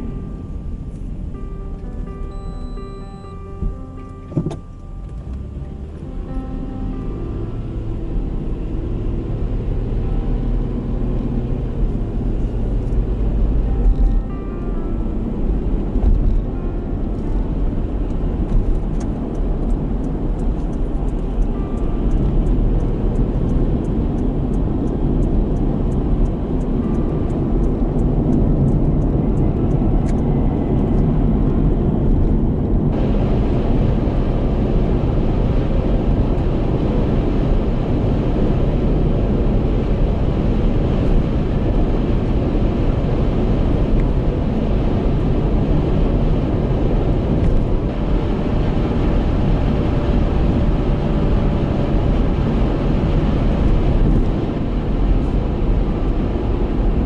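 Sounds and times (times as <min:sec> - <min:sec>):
vehicle rumble in motion: 0:00.0 - 0:57.0.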